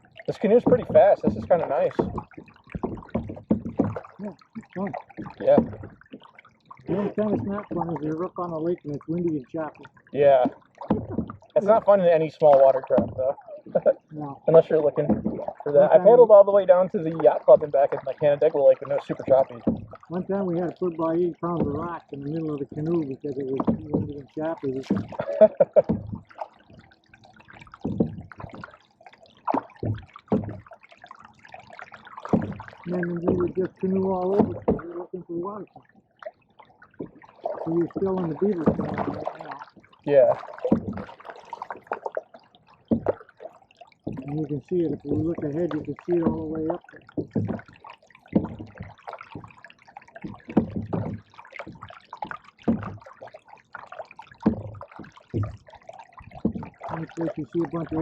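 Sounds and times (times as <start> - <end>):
paddles pulling through water: 0.0 - 58.0
water splashes and drips: 0.0 - 58.0.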